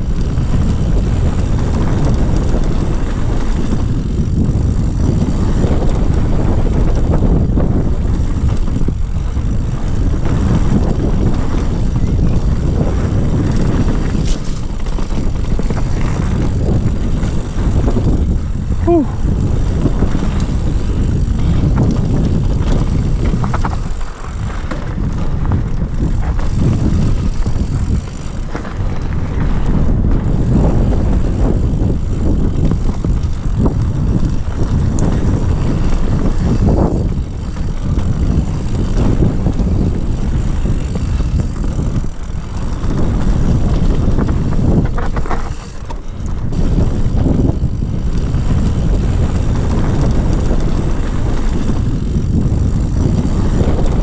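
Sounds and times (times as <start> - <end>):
bike knocking and rattling: 0.0 - 54.0
wind rushing over microphone: 0.0 - 54.0.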